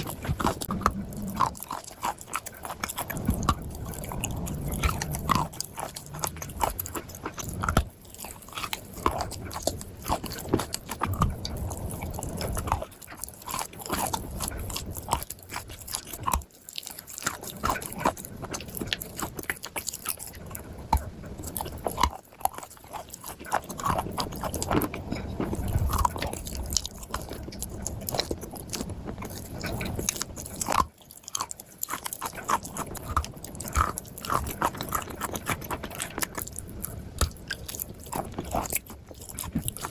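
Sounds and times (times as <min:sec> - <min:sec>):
person chewing dry clay crunching: 0:00.0 - 0:39.9.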